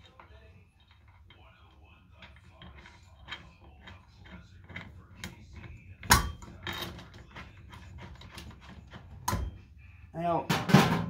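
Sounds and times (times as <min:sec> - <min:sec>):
metal bolts clicking and rattling: 0:00.0 - 0:09.6.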